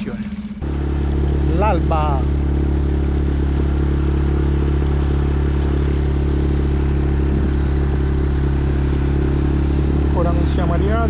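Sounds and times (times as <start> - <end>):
outboard motor running: 0.0 - 11.0
water noise: 0.0 - 11.0.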